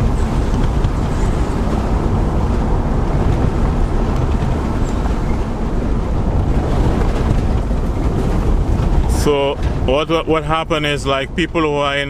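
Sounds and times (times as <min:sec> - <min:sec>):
car engine tyre and wind rumble: 0:00.0 - 0:12.0.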